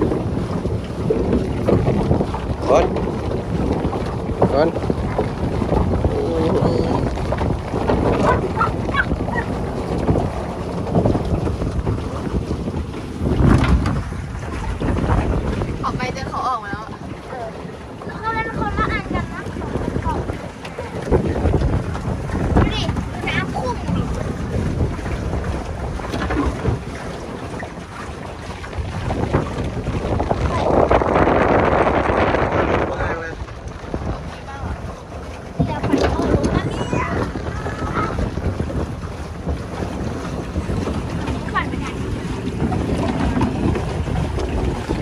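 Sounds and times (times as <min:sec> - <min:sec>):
water churned by pedal boat: 0:00.0 - 0:45.0
wind buffeting microphone: 0:00.0 - 0:45.0.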